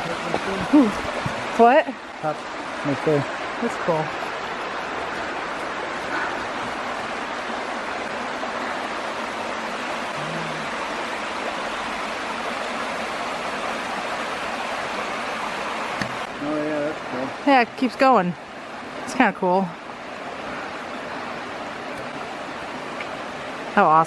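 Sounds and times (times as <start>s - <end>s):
waterfall rushing over rock: 0.0s - 24.0s.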